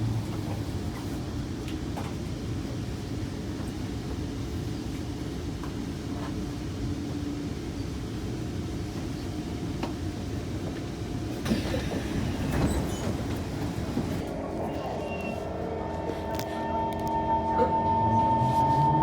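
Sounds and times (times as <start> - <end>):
train wheels rumbling on rail: 0.0 - 17.3.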